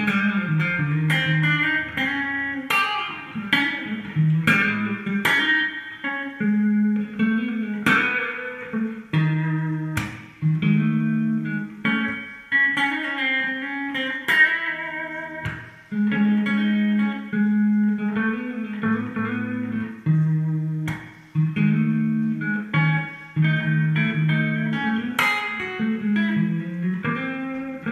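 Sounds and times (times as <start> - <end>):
electric guitar melody: 0.0 - 27.9.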